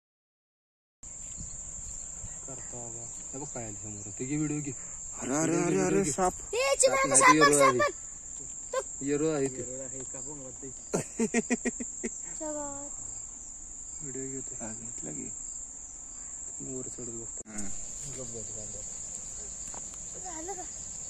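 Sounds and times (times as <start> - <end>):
insects trilling: 1.0 - 21.0.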